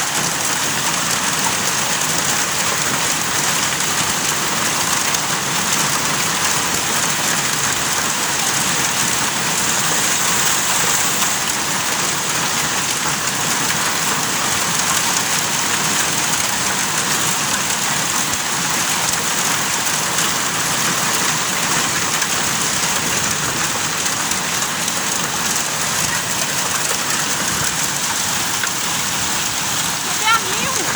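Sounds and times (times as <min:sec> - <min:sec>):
hail and heavy rain clattering: 0:00.0 - 0:30.9.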